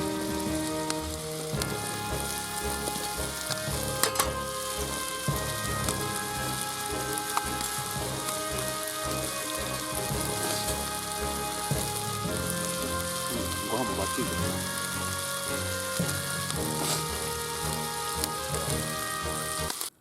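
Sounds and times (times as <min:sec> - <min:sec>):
soft instrumental music: 0:00.0 - 0:19.8
sizzling crackling hiss: 0:00.0 - 0:20.0.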